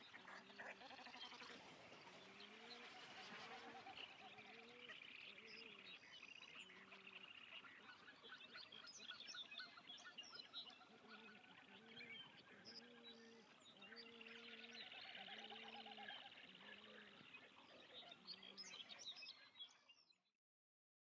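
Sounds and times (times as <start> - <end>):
wetland bird calls: 0.0 - 19.5.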